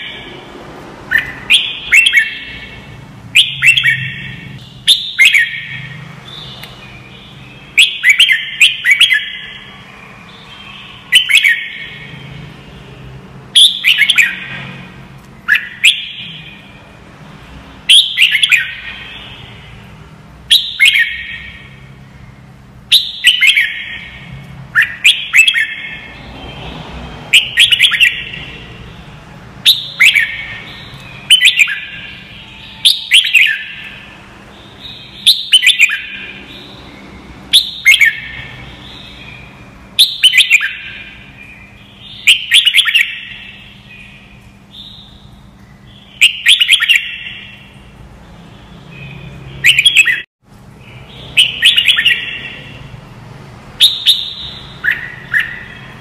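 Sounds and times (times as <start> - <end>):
bulbul singing: 0.0 - 56.0.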